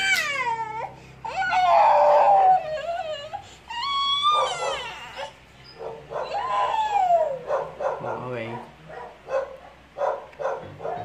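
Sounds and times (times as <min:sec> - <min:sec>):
dog whining: 0:00.0 - 0:11.0.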